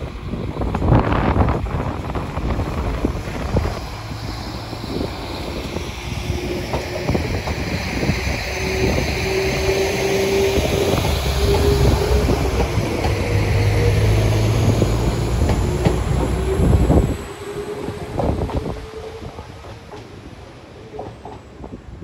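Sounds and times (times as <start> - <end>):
train rumble and hiss: 0.0 - 22.0
train whine: 0.0 - 22.0.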